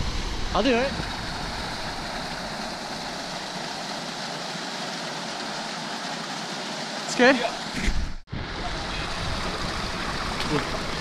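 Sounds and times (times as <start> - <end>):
water rushing between boulders: 0.0 - 11.0.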